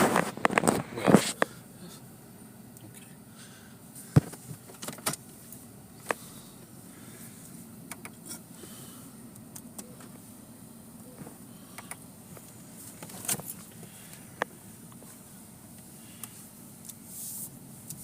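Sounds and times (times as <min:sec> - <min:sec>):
car interior hum while driving: 0:00.0 - 0:18.0.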